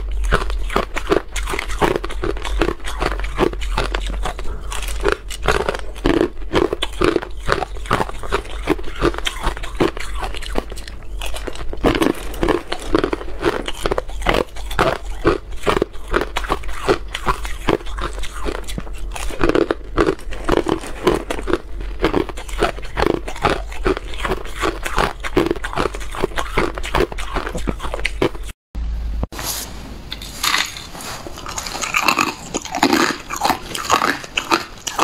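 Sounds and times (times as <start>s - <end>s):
ice being chewed with crunches: 0.0s - 28.6s, 30.4s - 35.0s.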